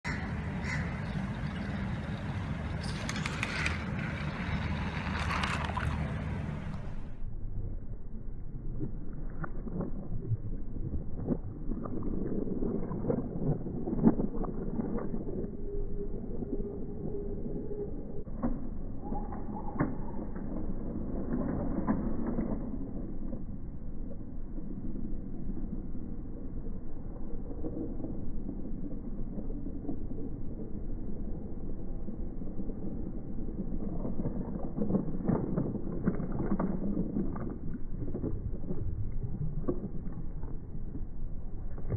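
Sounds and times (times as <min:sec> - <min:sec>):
low rumble: 0:00.0 - 0:41.9.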